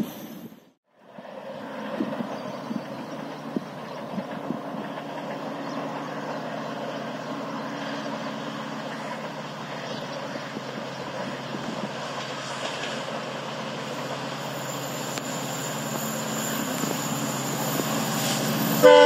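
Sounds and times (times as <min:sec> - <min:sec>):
distant diesel locomotive engine: 0:00.0 - 0:19.0.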